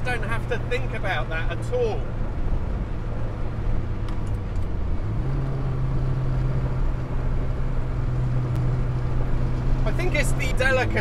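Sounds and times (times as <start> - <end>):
car engine cruising: 0.0 - 11.0
road noise: 0.0 - 11.0.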